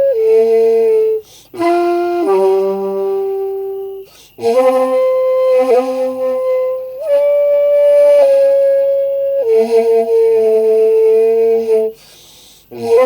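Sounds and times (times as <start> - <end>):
bamboo flute long held notes: 0.0 - 13.0.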